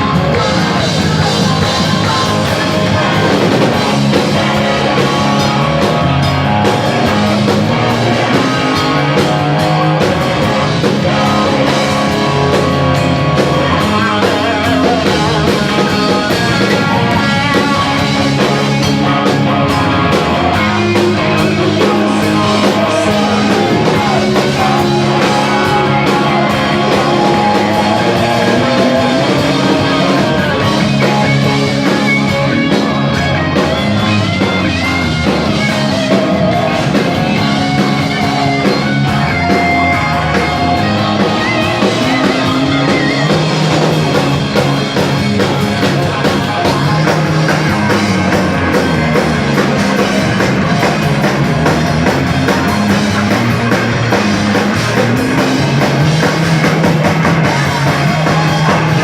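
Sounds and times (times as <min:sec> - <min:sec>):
drum kit: 0:00.0 - 0:59.0
electric guitar: 0:00.0 - 0:59.0
live rock band playing: 0:00.0 - 0:59.0.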